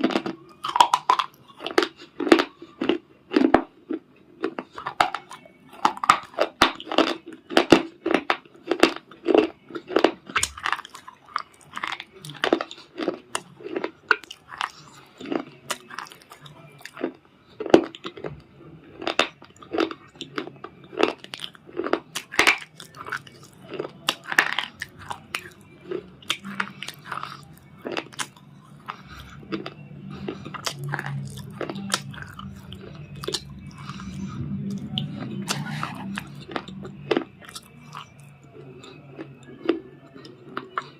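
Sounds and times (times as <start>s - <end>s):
crunchy stones being chewed: 0.0s - 40.9s.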